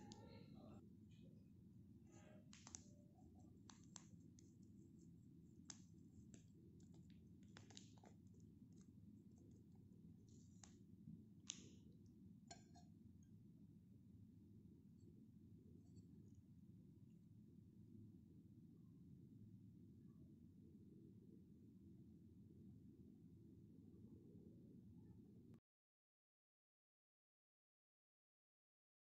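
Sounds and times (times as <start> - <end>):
low room hum: 0.0 - 25.6.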